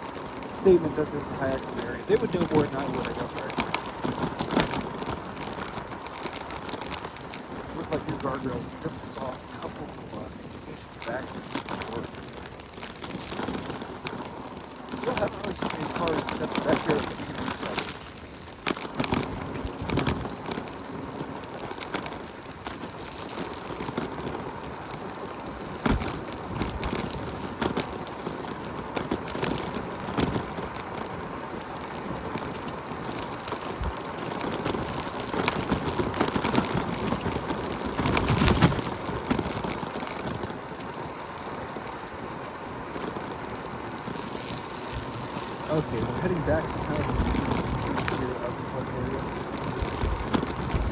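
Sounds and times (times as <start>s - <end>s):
wheels on wet pavement: 0.0s - 50.9s
wind on microphone: 0.0s - 50.9s.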